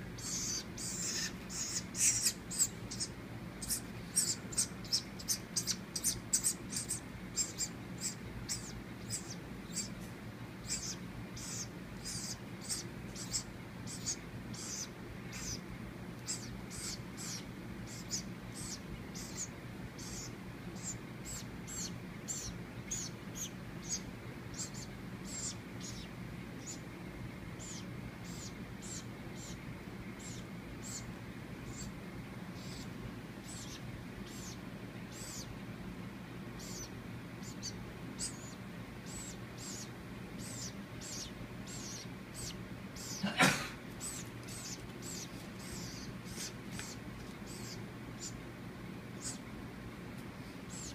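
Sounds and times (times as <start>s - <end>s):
baby woodpecker calls: 0.1s - 26.9s, 27.5s - 35.6s, 36.6s - 48.4s, 49.1s - 49.5s, 50.7s - 50.9s.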